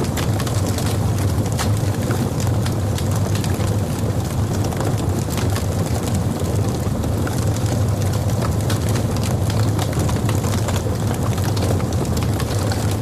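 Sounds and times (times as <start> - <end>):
low rumble of fire: 0.0 - 13.0
wood crackles and pops: 0.0 - 13.0.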